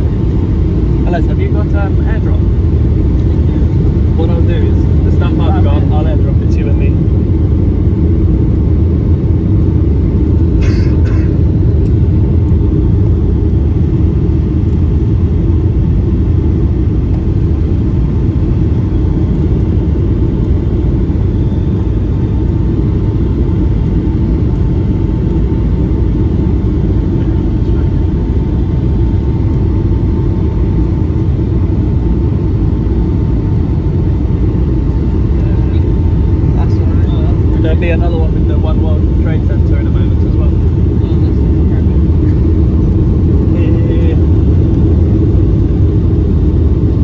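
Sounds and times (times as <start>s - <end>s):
airplane cabin rumble: 0.0s - 47.0s.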